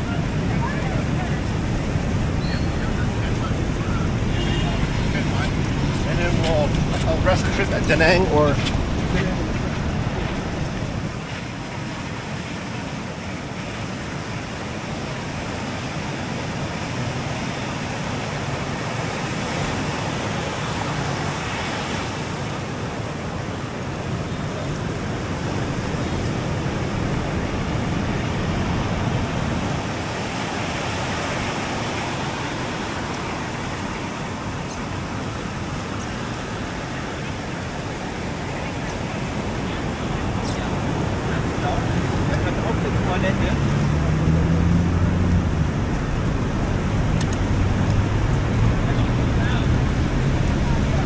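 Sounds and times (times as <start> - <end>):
sea surf breaking: 0.0 - 51.0.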